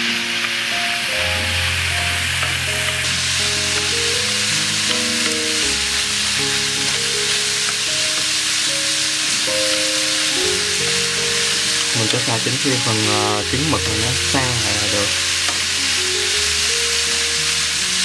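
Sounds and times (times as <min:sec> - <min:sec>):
background music: 0:00.0 - 0:18.0
food sizzling in a hot pan: 0:00.0 - 0:18.0.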